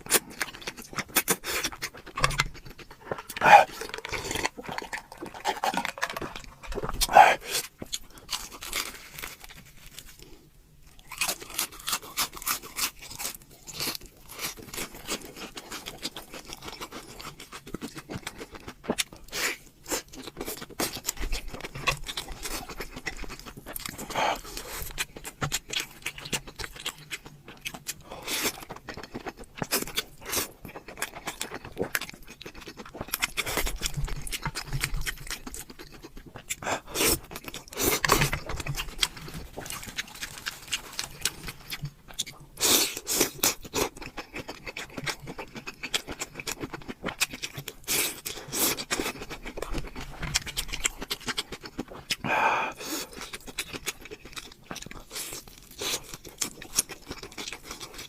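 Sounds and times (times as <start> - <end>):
crunchy fried chicken chewing: 0.0 - 58.0
soft wet chewing: 0.0 - 58.0.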